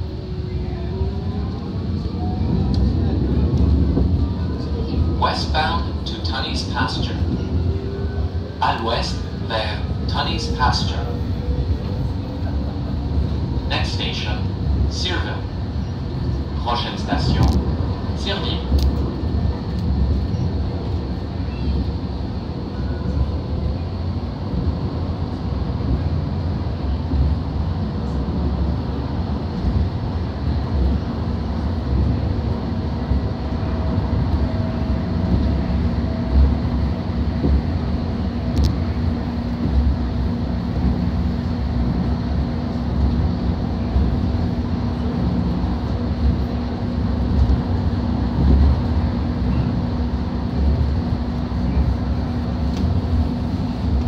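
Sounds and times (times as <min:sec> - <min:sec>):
rumble of wheels on rail: 0:00.0 - 0:54.0.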